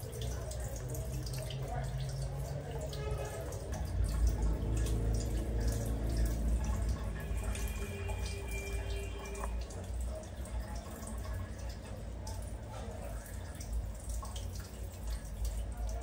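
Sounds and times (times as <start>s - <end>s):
water dripping and splashing: 0.0s - 16.0s
water running from hand shower: 0.0s - 16.0s.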